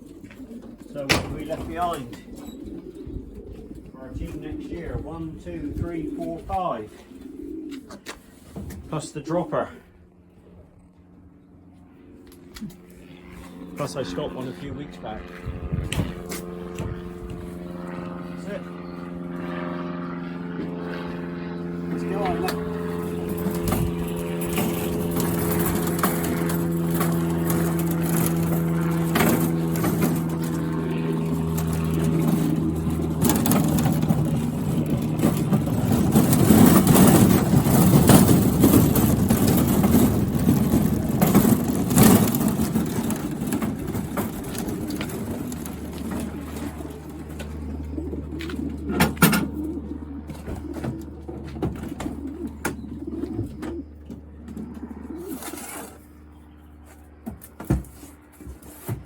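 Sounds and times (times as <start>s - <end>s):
engine-like hum: 0.0s - 59.0s
pigeons cooing: 0.0s - 59.0s.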